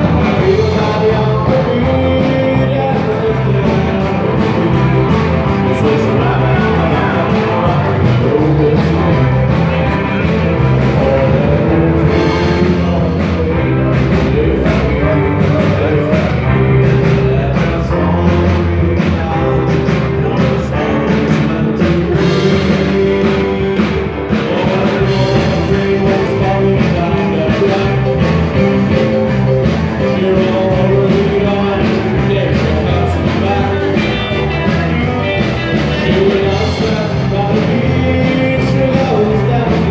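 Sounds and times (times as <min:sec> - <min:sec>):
live rock and roll band: 0:00.0 - 0:39.9
person singing: 0:00.0 - 0:39.9.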